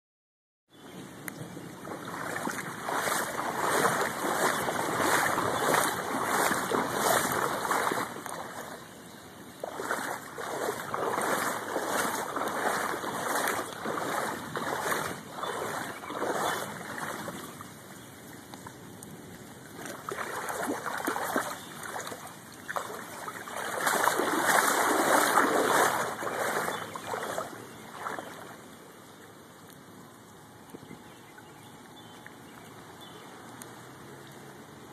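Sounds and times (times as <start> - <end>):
floodwater rushing and splashing: 1.0 - 34.9.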